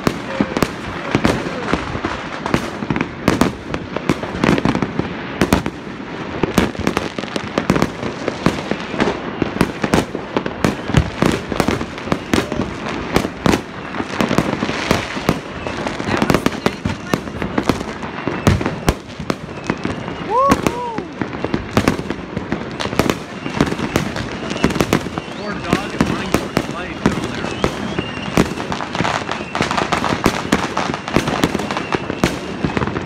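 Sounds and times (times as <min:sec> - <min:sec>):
fireworks bangs and pops: 0:00.0 - 0:33.0.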